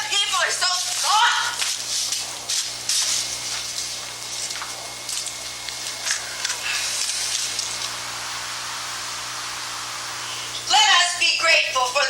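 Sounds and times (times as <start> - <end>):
tape hiss: 0.0 - 12.0.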